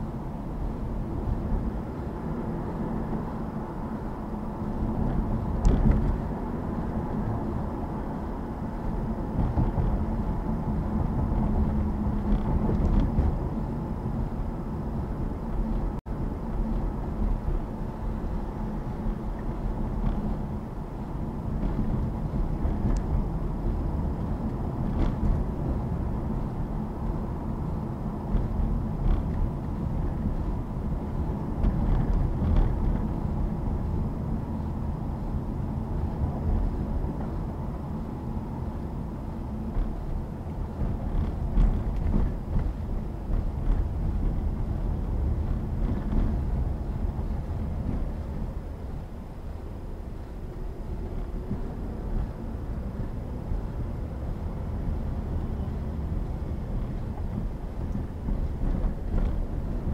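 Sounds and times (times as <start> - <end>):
car tyres and engine rumble: 0.0 - 59.9.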